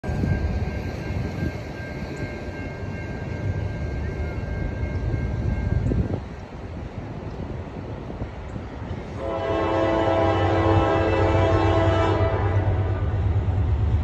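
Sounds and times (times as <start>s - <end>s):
distant freight train rumble: 0.0s - 14.0s.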